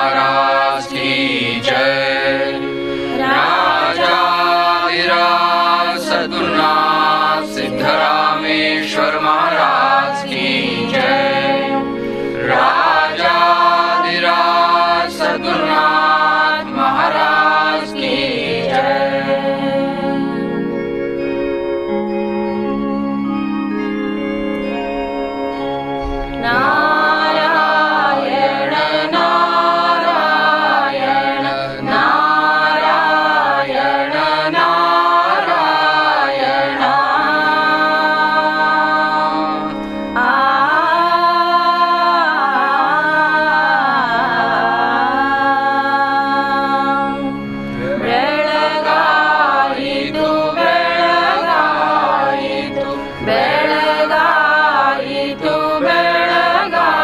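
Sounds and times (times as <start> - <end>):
person singing: 0.0 - 20.8, 26.0 - 57.0
harmonium chords: 0.0 - 57.0.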